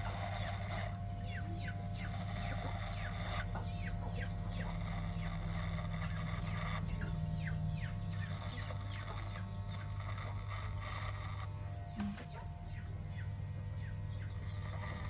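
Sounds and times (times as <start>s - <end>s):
bird chirping: 0.0s - 15.0s
electric hair clipper humming: 0.0s - 15.0s.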